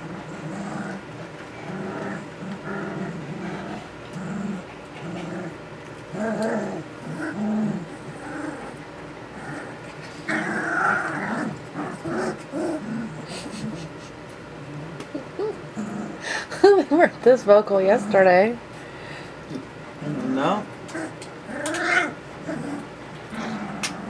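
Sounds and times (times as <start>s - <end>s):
puppies growling: 0.0s - 16.9s, 17.7s - 24.0s.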